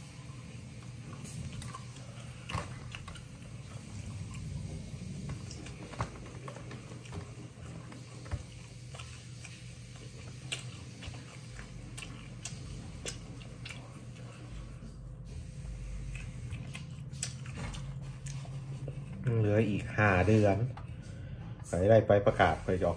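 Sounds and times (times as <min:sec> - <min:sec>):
low steady hum: 0:00.0 - 0:22.9
chewing and gnawing: 0:00.8 - 0:15.2, 0:15.8 - 0:19.9.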